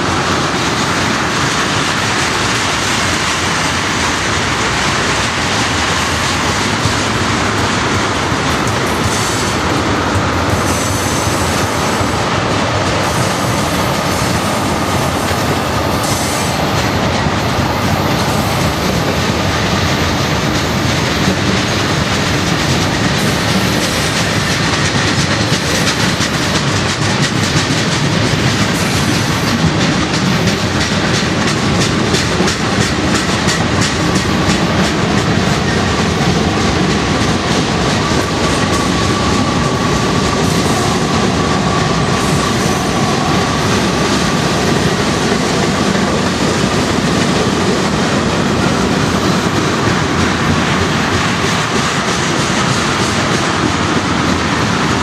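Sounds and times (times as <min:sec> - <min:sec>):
freight train cars rolling: 0:00.0 - 0:55.0.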